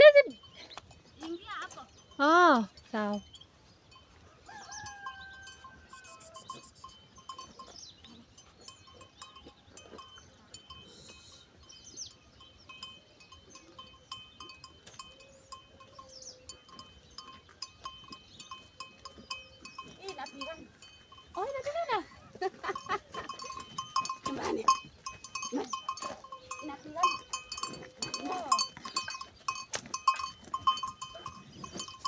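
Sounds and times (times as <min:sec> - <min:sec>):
livestock bell clinking: 0:00.0 - 0:32.0.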